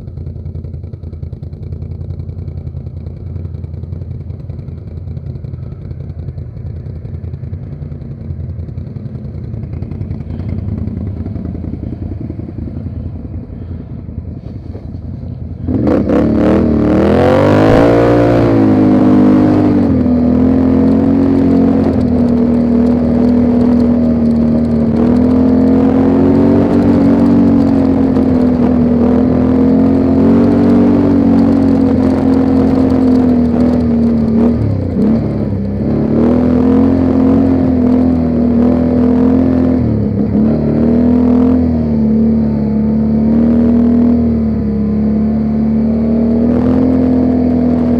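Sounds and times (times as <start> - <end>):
atv engine running: 0.0 - 47.9.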